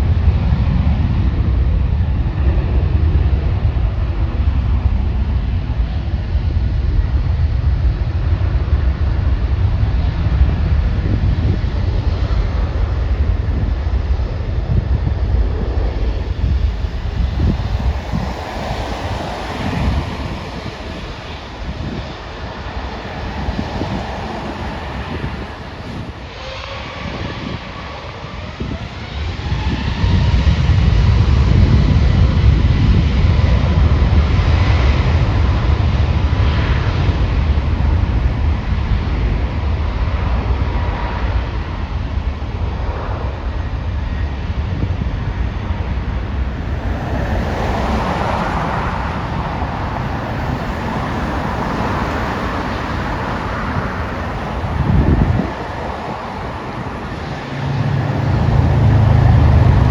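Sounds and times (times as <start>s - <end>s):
jet engine rumble: 0.0s - 59.9s
jet engine whine: 0.0s - 59.9s.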